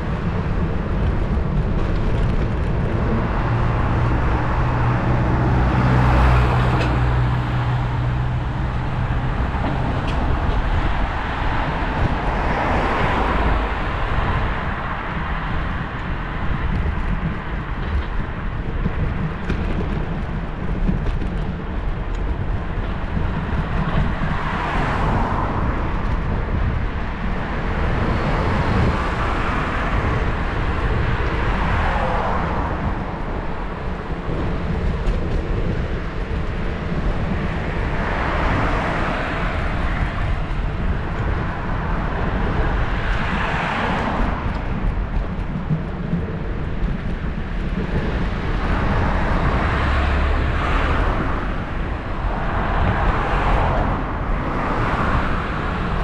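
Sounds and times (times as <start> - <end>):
cars passing: 0.0 - 56.0
wind and road noise rumble: 0.0 - 56.0.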